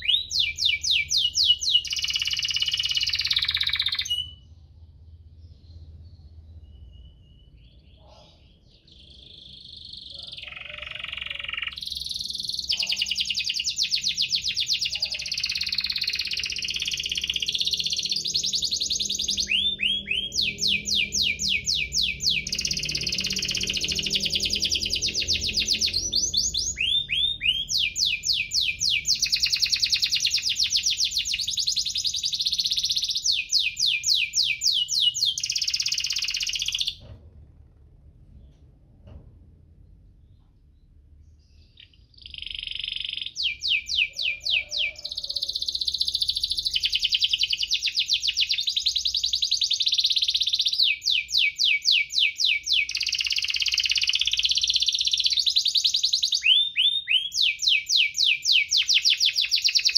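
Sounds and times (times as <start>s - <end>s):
canary singing trills: 0.0s - 37.0s, 41.2s - 59.9s.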